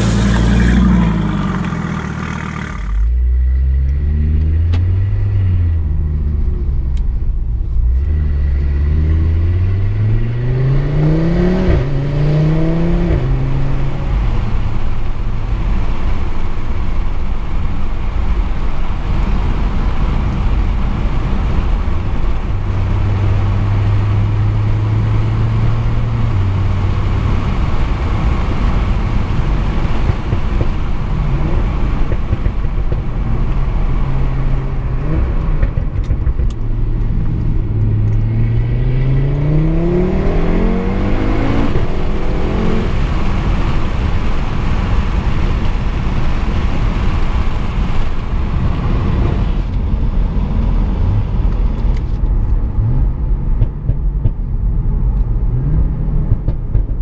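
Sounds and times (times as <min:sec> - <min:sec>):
car engine accelerating: 0:00.0 - 0:57.0
road and tyre noise: 0:00.0 - 0:57.0.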